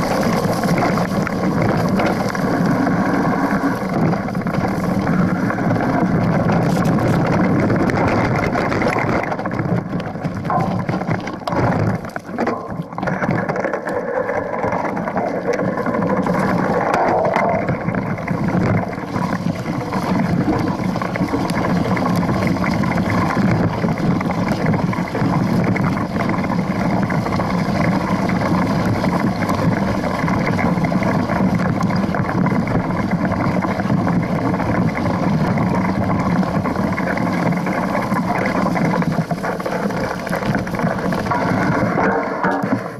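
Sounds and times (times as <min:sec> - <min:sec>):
bike rattling: 0:00.0 - 0:42.9
bike tyre rolling on rocky trail: 0:00.0 - 0:42.9.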